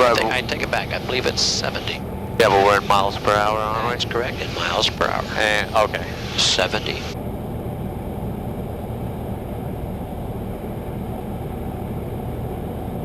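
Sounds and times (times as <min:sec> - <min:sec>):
plane engine and propeller drone: 0:00.0 - 0:13.0.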